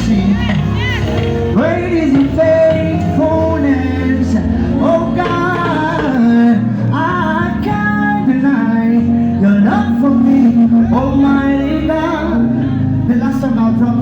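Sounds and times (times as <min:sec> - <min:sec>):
gospel singing with live band: 0:00.0 - 0:14.0.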